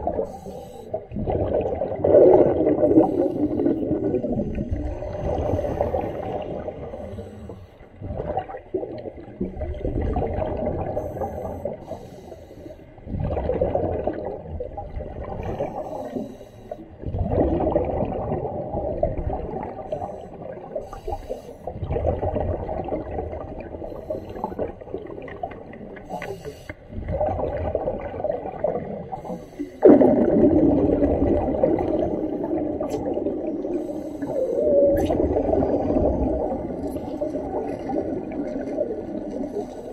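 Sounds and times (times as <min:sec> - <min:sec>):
gurgling exhaled air bubbles: 0:00.0 - 0:12.0, 0:13.0 - 0:16.3, 0:16.9 - 0:39.9.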